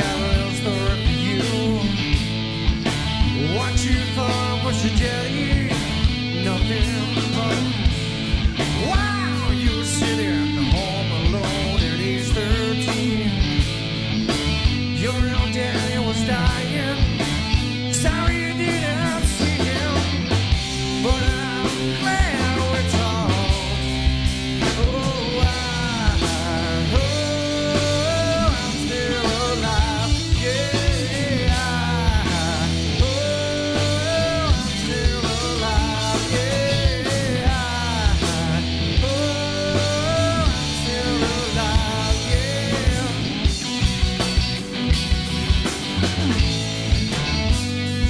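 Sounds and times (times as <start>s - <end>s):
rock song with male singer: 0.0s - 48.0s.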